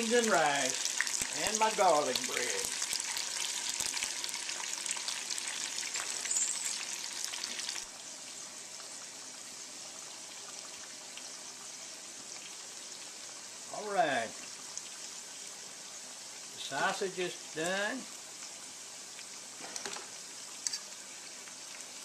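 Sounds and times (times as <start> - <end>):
food deep frying in oil: 0.0 - 22.0.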